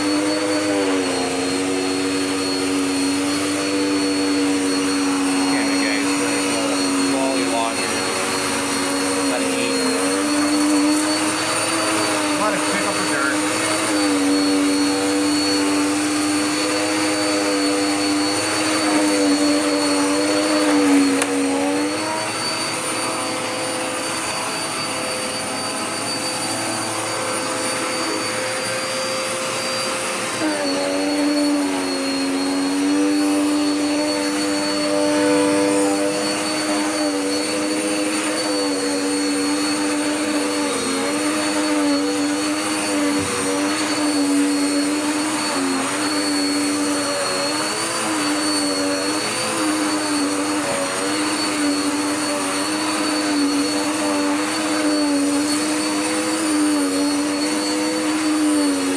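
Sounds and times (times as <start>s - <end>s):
upright vacuum running: 0.0s - 58.9s.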